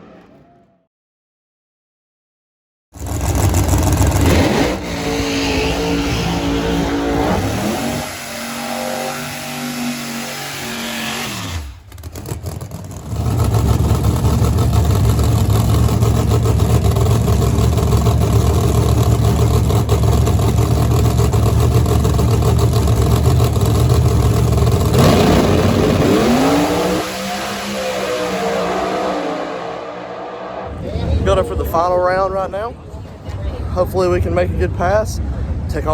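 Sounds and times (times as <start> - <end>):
drag race car engine revving: 3.0 - 32.0.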